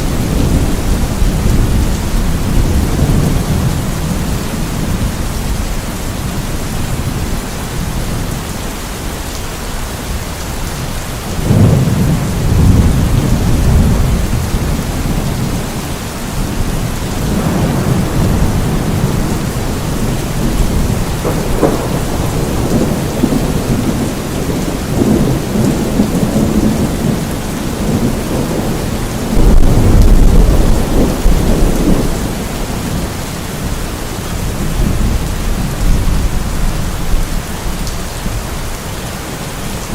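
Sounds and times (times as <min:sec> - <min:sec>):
thunder rumbling: 0:00.0 - 0:08.5, 0:11.2 - 0:38.6
rain falling: 0:00.0 - 0:39.9.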